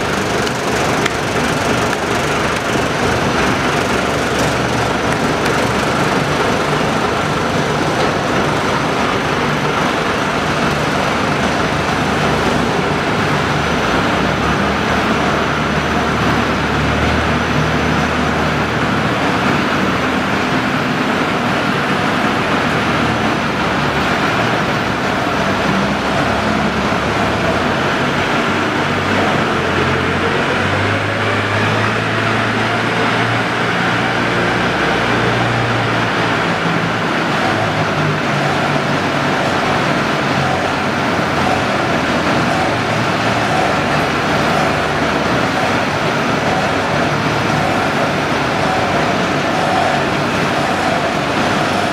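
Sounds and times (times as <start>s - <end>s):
industrial machinery rumbling: 0.0s - 51.9s.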